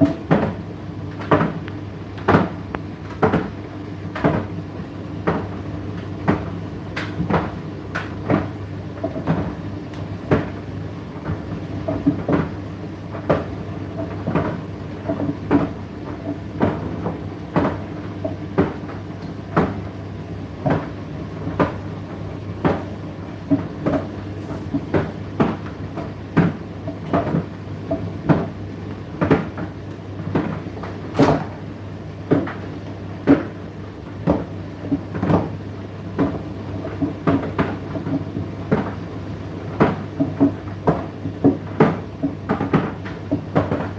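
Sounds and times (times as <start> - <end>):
tumble dryer motor hum: 0.0 - 43.9.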